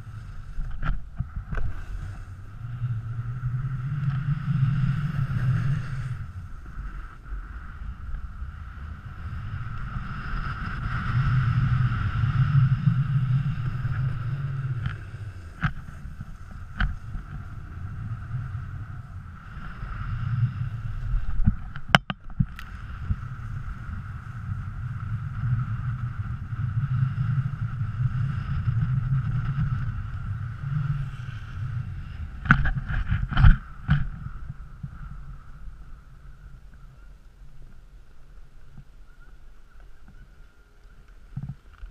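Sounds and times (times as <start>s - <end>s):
snowboard scraping over snow: 0.0s - 21.9s, 22.7s - 36.5s
wind on microphone: 0.0s - 41.9s.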